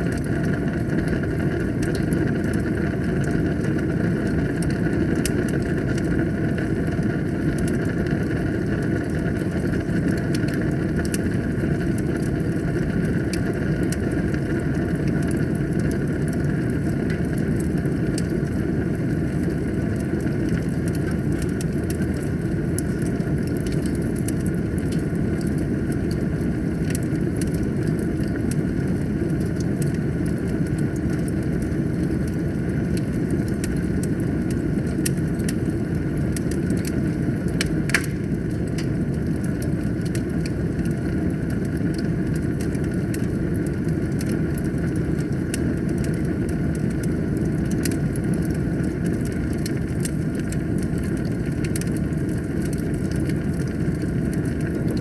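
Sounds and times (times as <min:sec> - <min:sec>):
fire crackling and popping: 0:00.0 - 0:55.0
wood fire roaring: 0:00.0 - 0:55.0.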